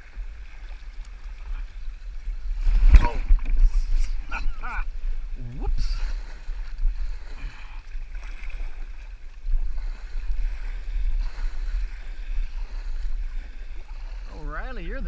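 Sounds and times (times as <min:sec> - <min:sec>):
water rippling past kayak: 0:00.0 - 0:15.0
wind buffeting microphone: 0:00.0 - 0:15.0.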